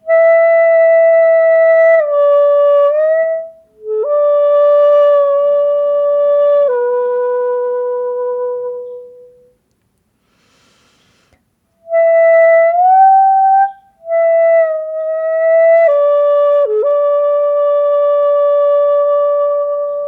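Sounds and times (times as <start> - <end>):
bamboo flute solo: 0.0 - 9.5, 11.8 - 20.0.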